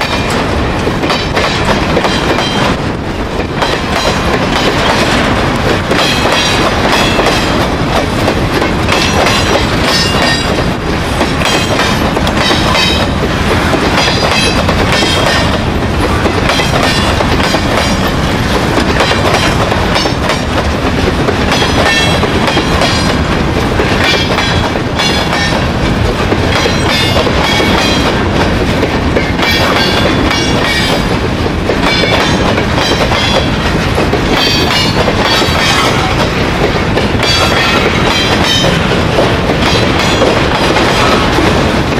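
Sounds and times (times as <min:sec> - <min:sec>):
train wheels rolling on rails: 0:00.0 - 0:41.9.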